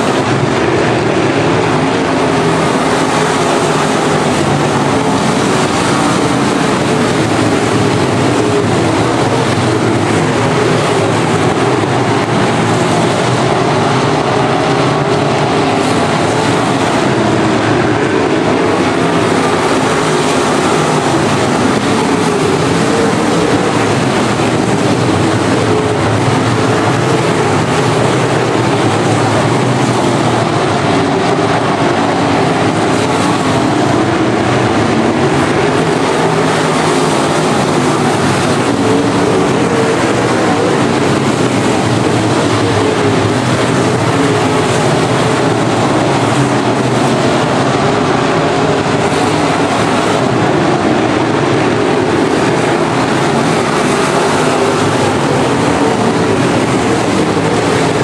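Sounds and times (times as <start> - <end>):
race car engines running hard: 0.0 - 58.0.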